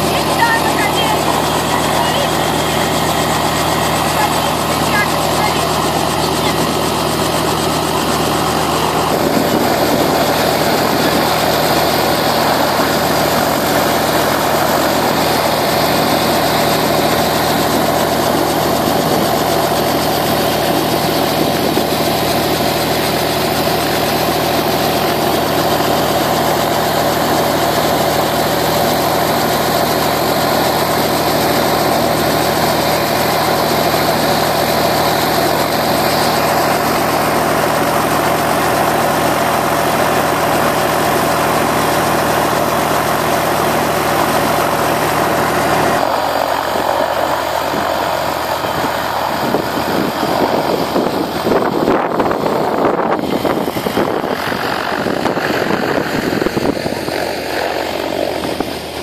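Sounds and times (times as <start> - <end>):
helicopter idling: 0.0 - 59.0.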